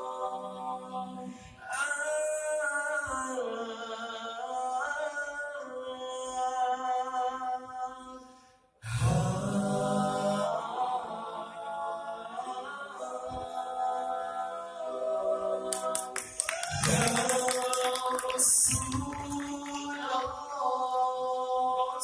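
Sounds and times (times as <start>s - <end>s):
male choir singing in harmony: 0.0s - 22.0s.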